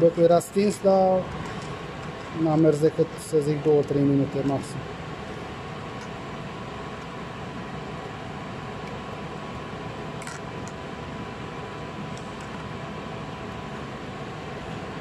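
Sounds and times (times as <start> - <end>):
ventilation hum and hiss: 0.0 - 15.0.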